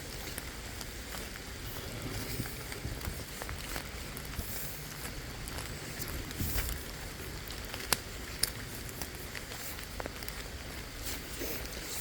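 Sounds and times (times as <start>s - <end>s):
footstep on muddy ground: 0.0s - 12.0s
rain pattering in forest: 0.0s - 12.0s.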